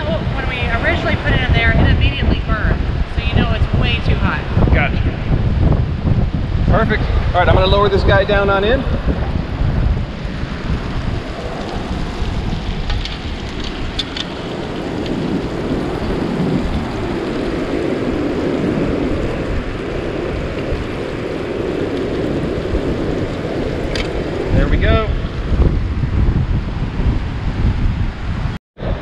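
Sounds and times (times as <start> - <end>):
surf: 0.0 - 29.0
wind buffeting microphone: 0.0 - 29.0.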